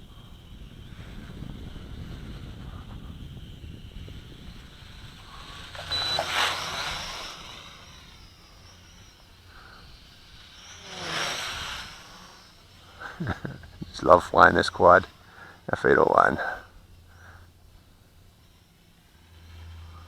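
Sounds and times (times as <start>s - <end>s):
quadcopter propellers whining: 0.0s - 20.0s.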